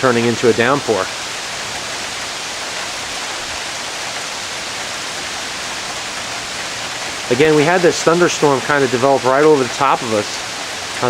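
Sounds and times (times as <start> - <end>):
heavy rain on pavement and roof: 0.0 - 11.0.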